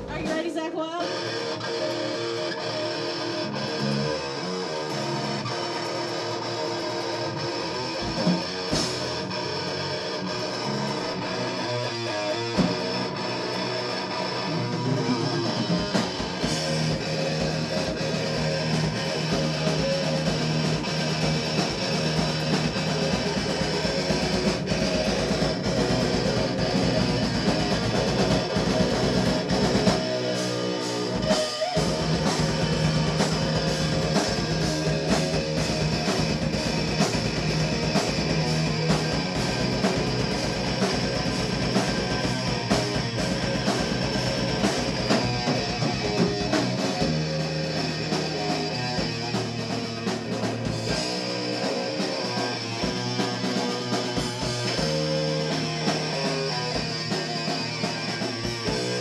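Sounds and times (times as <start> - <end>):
drum kit: 0.0 - 59.0
electric guitar: 0.0 - 59.0
electric bass: 1.0 - 59.0.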